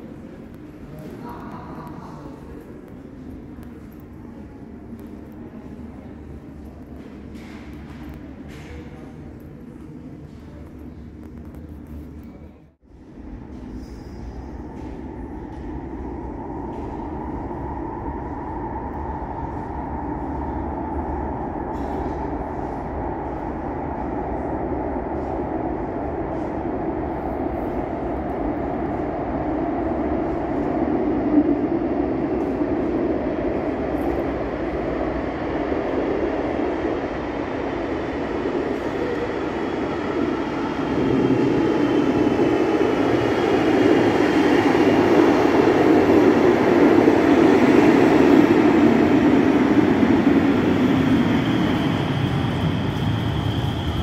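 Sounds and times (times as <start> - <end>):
faint train whine: 0.0 - 54.0
train rumble in tunnel: 0.0 - 54.0.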